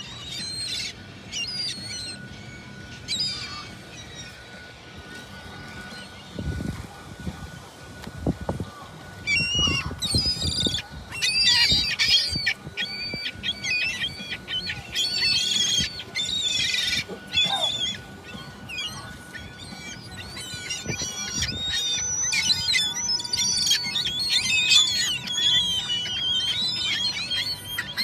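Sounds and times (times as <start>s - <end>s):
gulls squawking: 0.0s - 7.8s, 8.6s - 28.0s.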